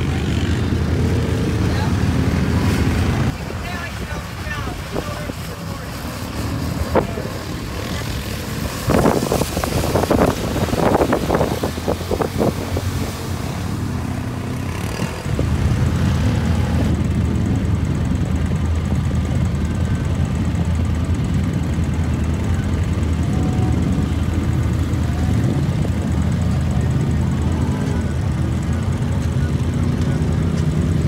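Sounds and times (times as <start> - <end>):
quad engine running under load: 0.0 - 31.0.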